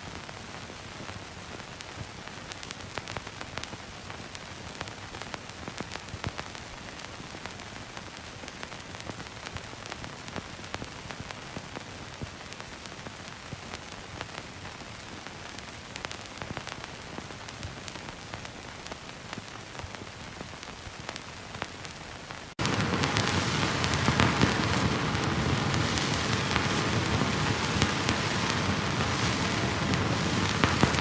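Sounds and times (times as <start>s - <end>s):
film reel hiss with crackles: 0.0s - 31.0s
loud full hiss: 0.0s - 31.0s.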